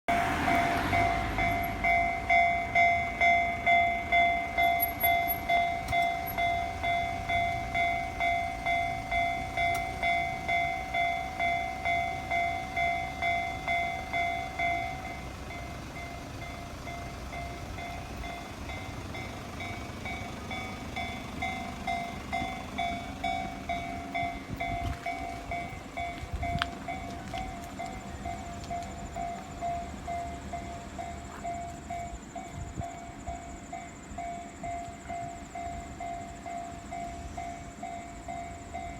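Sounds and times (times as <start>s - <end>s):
train rumbling: 0.1s - 38.9s
electronic level-crossing bell: 0.4s - 38.9s.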